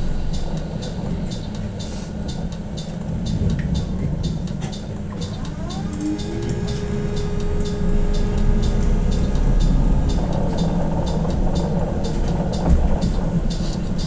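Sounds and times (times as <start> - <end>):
bus rumble: 0.0 - 14.0
electric drive whine: 0.0 - 14.0.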